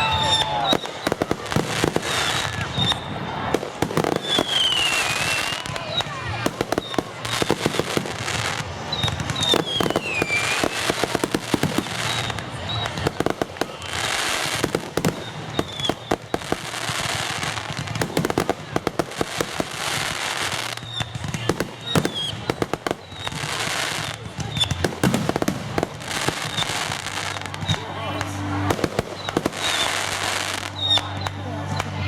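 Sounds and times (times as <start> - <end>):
fireworks whistles: 0.0 - 31.9
fireworks bangs and crackling: 0.0 - 32.0.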